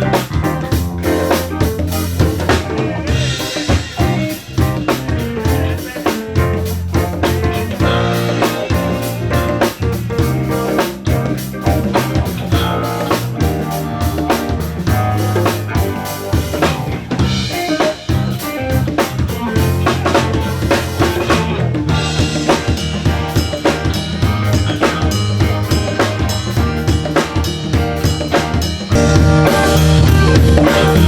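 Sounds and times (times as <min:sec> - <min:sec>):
live band playing: 0:00.0 - 0:31.0
snare and bass drum beat: 0:00.0 - 0:31.0.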